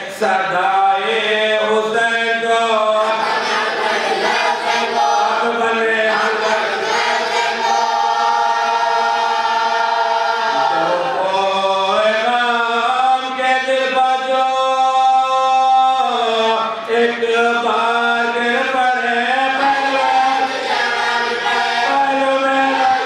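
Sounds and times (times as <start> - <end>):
men chanting a lament: 0.0 - 23.0.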